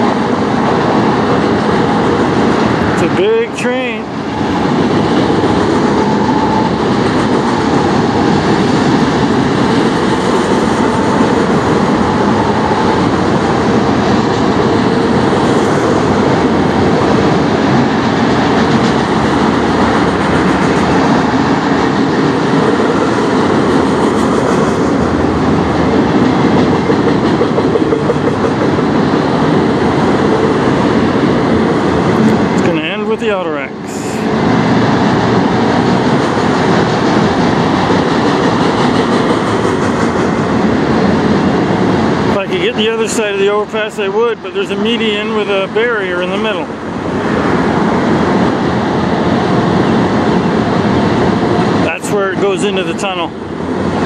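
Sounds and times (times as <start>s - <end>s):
steel train wheels on rails: 0.0s - 54.0s.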